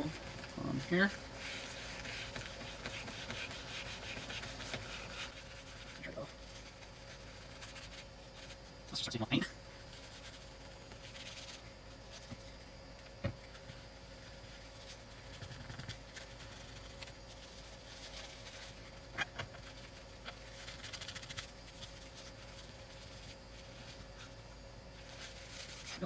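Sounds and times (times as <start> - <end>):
scratching and rubbing: 0.0 - 9.1, 9.9 - 12.5, 14.3 - 24.4, 25.0 - 26.0.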